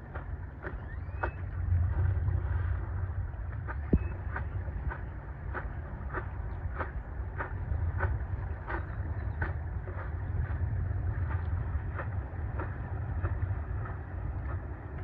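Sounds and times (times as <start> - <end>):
water splashes: 0.0 - 15.0
wind buffeting microphone: 0.0 - 15.0.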